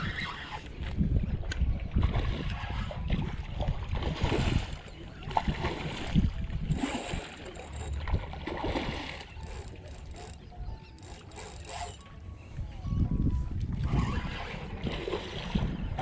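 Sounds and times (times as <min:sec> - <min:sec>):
wind rumble on microphone: 0:00.0 - 0:09.5, 0:12.1 - 0:16.0.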